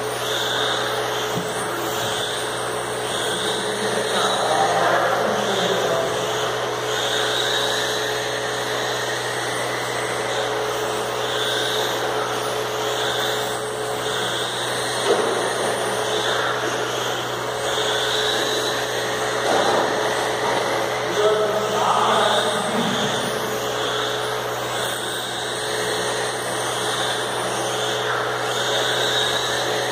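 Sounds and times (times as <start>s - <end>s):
rc car motors whining: 0.0s - 29.9s
steady low hum: 0.0s - 29.9s.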